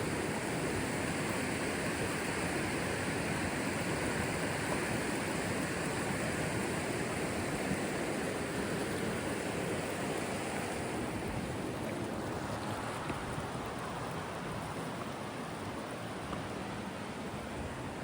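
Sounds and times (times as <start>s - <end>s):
river water rushing over rapids: 0.0s - 18.0s.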